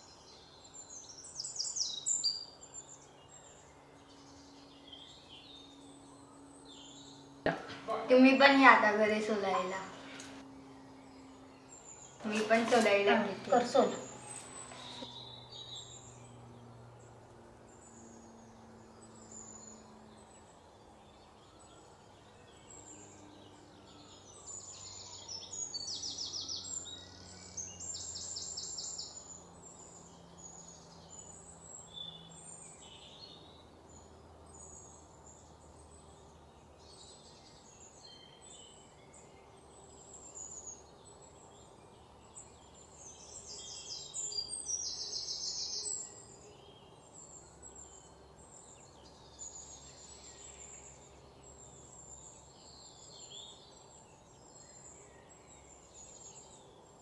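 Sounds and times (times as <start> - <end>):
birds chirping: 0.0 - 57.0
faint background noise: 0.0 - 57.0.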